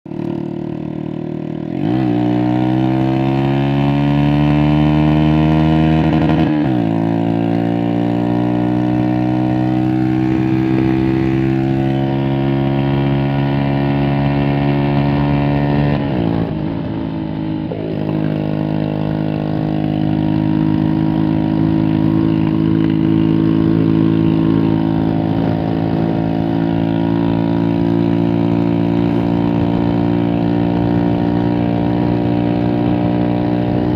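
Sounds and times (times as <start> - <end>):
vehicle engine revving: 0.1 - 33.9.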